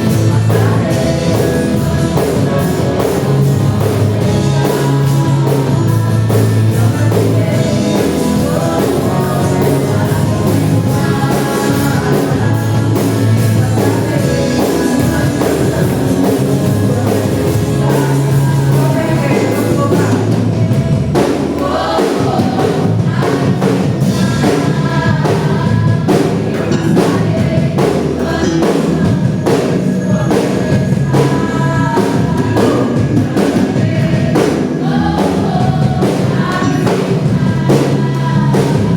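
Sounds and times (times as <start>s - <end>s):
band with drum kit: 0.0s - 38.9s
voices singing gospel: 0.0s - 38.9s.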